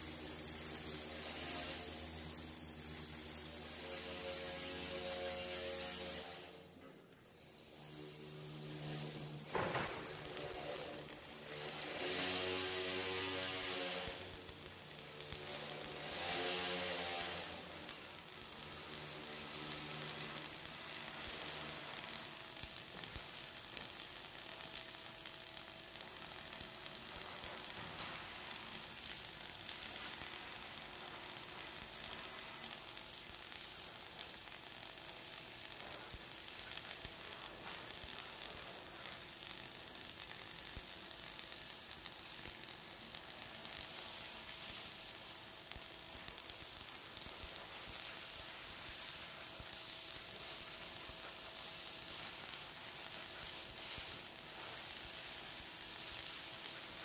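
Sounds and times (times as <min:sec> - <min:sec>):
welding arc crackling sizzle: 0:00.0 - 0:57.0.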